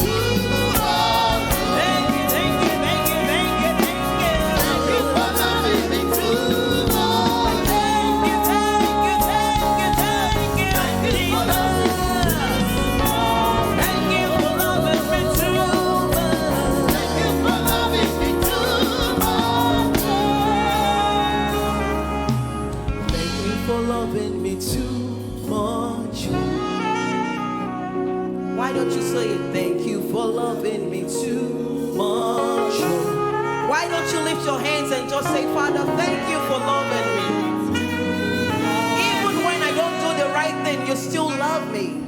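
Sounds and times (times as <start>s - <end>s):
gospel singers with band: 0.0s - 42.0s.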